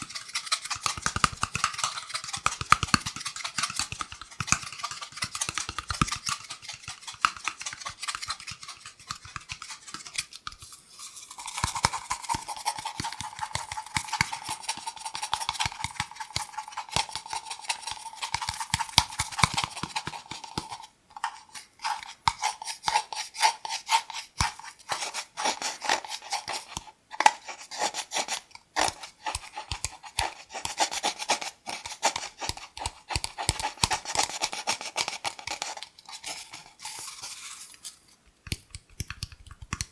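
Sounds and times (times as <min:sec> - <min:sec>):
cardboard tube tapping and scratching: 0:00.0 - 0:39.9.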